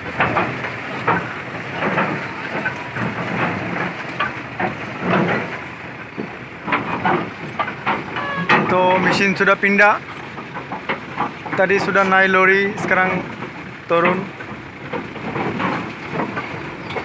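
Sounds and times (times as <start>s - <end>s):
engine hum: 0.0s - 17.0s
metal clanks and knocks: 0.0s - 17.0s.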